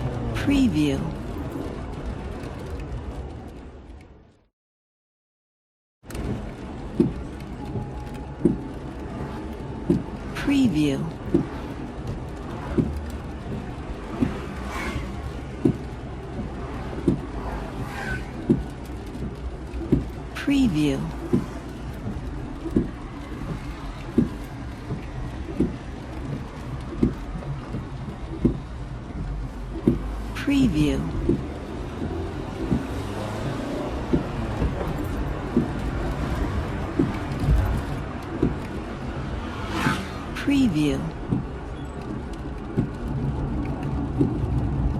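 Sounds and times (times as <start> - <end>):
cars passing with wet tyre hiss: 0.0 - 4.0, 6.1 - 44.9
outside traffic noise: 0.0 - 4.5, 6.0 - 44.9
windscreen wiper thumping: 6.1 - 10.4, 11.1 - 20.4, 21.0 - 40.4, 41.1 - 44.9.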